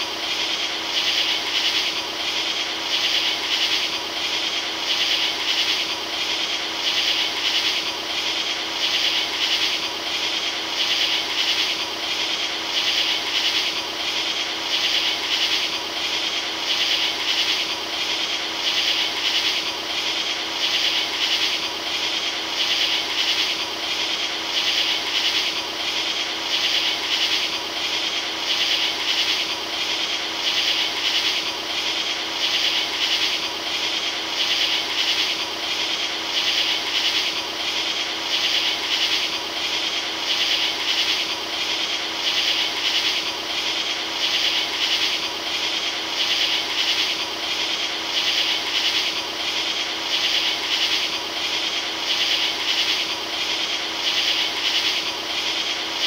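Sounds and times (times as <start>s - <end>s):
rhythmic rasping hiss: 0.0s - 56.0s.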